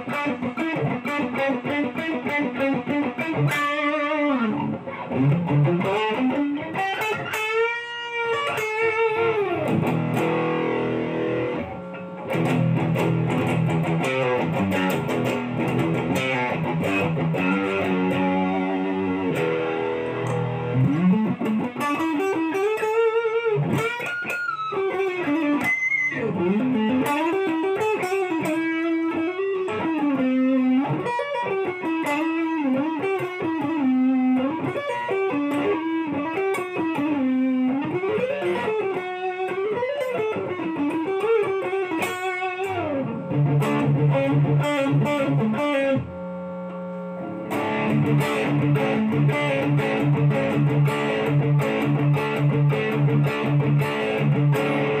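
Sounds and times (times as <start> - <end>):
electric guitar melody: 0.0 - 55.0.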